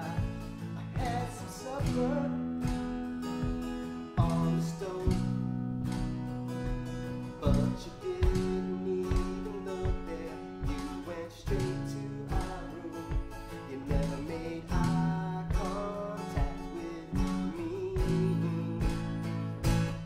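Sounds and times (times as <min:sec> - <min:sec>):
acoustic guitar strumming: 0:00.0 - 0:20.0
bass guitar low notes: 0:00.0 - 0:20.0.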